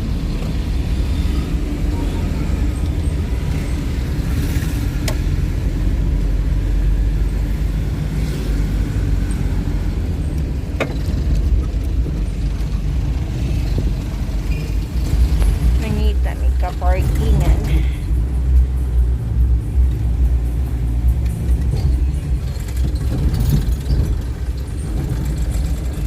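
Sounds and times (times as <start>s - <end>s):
vehicle engine and road rumble: 0.0s - 26.0s.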